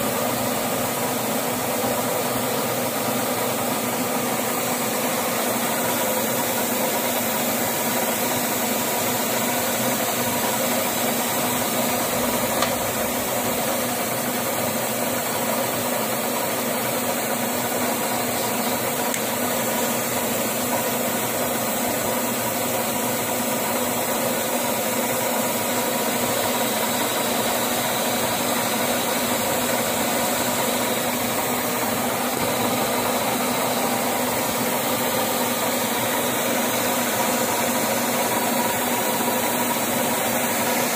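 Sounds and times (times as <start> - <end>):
metal lathe humming: 0.0 - 40.9.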